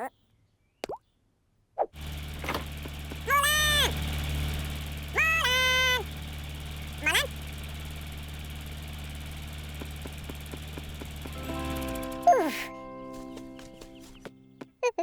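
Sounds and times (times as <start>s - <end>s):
low motor hum: 2.0s - 14.3s.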